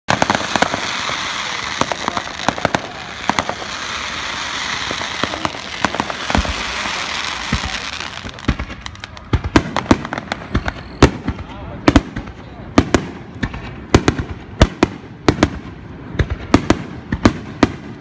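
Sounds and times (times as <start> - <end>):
fireworks crackling: 0.1 - 18.0
fireworks deep booms: 0.1 - 18.0
fireworks loud bangs: 0.1 - 18.0.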